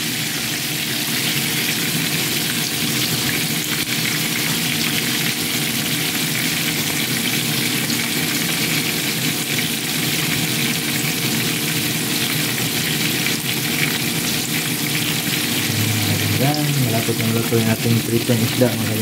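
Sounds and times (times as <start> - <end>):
fish sizzling in hot oil: 0.0 - 19.0.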